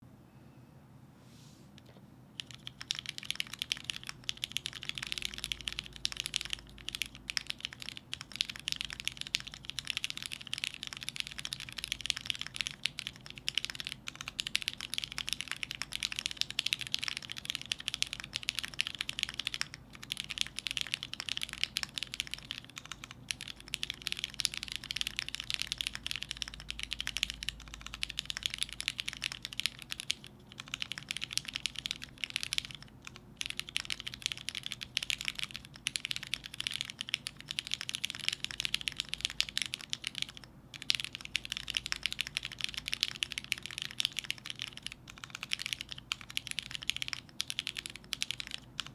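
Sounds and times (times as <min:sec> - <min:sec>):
fast typing on keyboard: 0:02.4 - 0:48.9.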